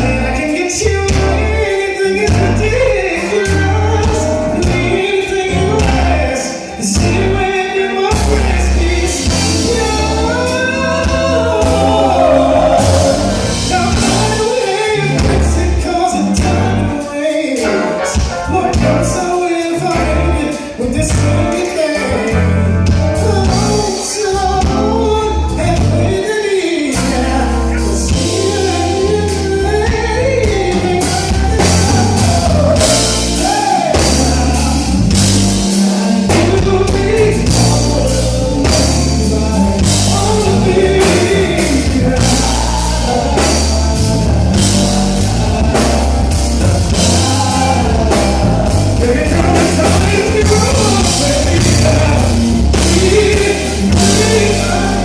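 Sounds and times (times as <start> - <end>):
man singing: 0.0 - 55.0
music with bass and drums: 0.0 - 55.0.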